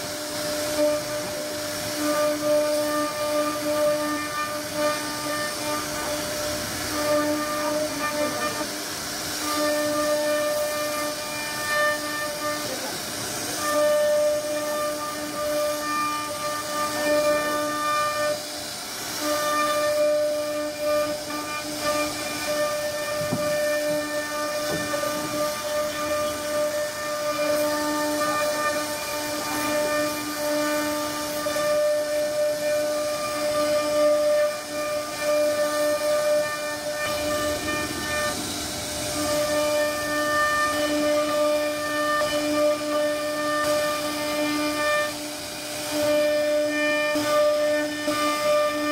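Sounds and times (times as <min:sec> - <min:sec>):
bit cutting wood hiss: 0:00.0 - 0:48.9
router spindle whining: 0:00.0 - 0:48.9.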